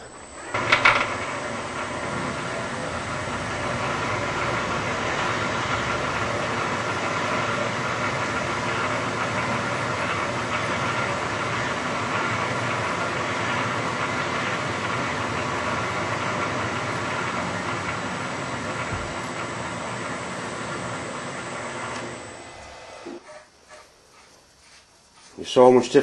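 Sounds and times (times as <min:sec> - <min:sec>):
metal lathe whirring: 0:00.0 - 0:23.9.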